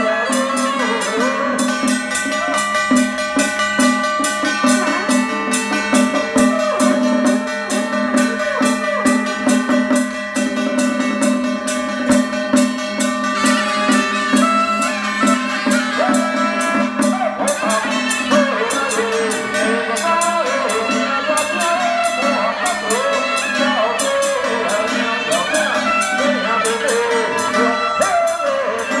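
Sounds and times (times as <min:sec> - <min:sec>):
gongs and drum beating: 0:00.0 - 0:29.0
wavering held melody: 0:00.0 - 0:29.0.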